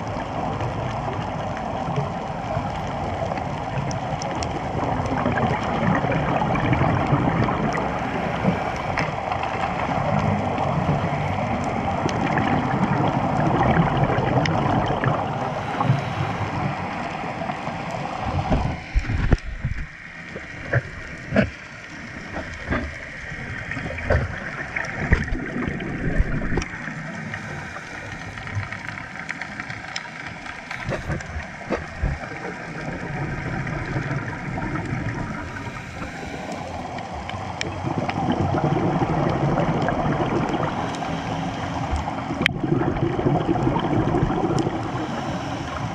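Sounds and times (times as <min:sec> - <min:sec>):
faint steady hum: 0:00.0 - 0:45.9
muffled underwater water rushing: 0:00.0 - 0:45.9.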